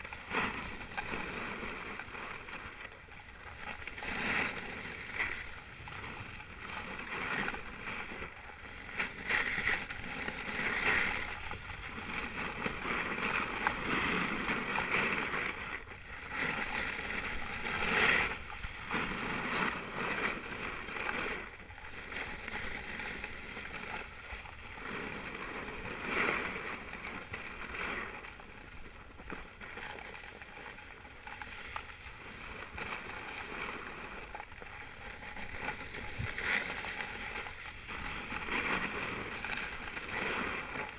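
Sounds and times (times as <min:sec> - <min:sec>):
skis hissing over snow: 0:00.0 - 0:40.9.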